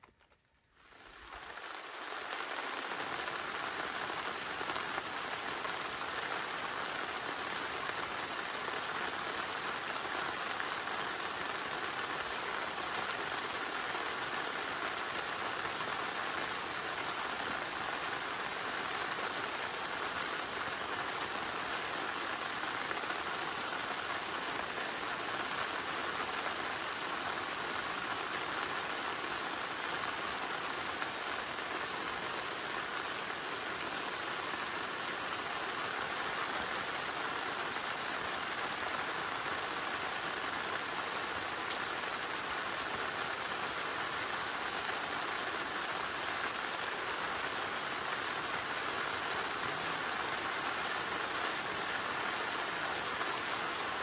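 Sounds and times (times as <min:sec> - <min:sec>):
steady rain falling: 0:00.0 - 0:54.0
raindrop ticks: 0:01.2 - 0:35.5, 0:40.7 - 0:52.0.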